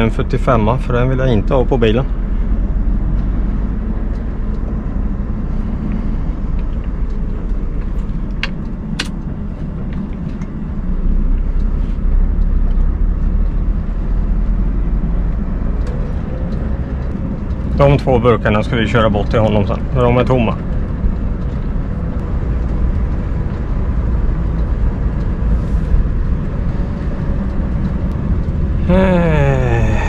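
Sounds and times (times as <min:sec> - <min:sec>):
diesel truck engine rumble: 0:00.0 - 0:30.0.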